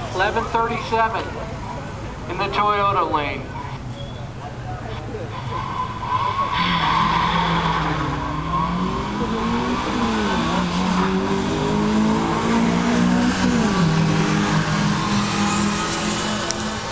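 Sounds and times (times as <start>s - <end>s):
drag racing car engines: 0.0s - 16.9s.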